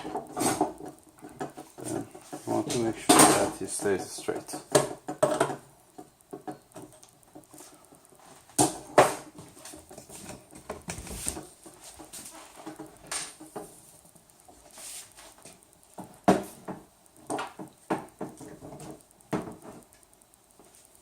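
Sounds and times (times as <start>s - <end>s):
small clicks taps and scraping: 0.0s - 21.0s.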